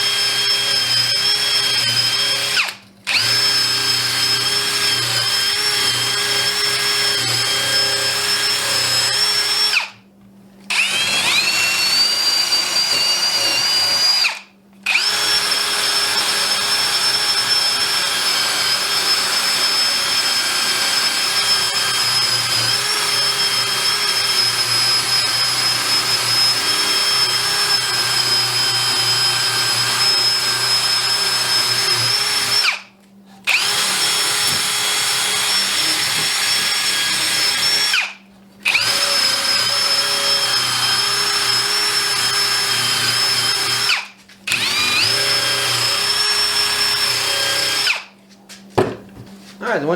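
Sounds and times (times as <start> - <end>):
drill motor whine: 0.0 - 10.0, 10.7 - 32.8, 33.5 - 48.1.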